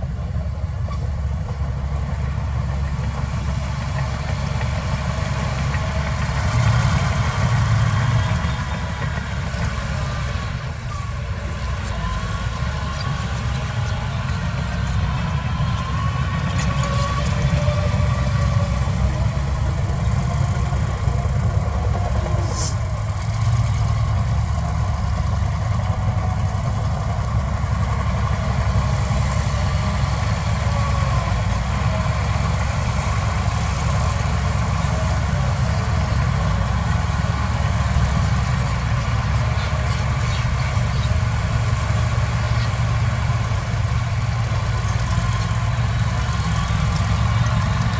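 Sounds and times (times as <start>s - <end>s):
diesel machinery rumbling: 0.0s - 47.9s.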